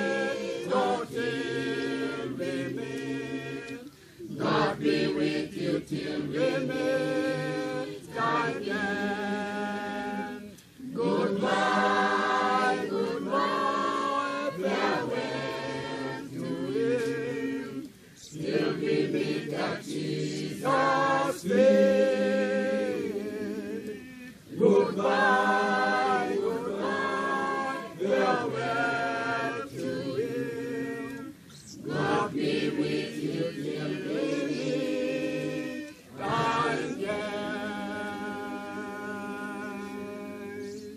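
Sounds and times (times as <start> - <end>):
choir singing a cappella: 0.0 - 40.9.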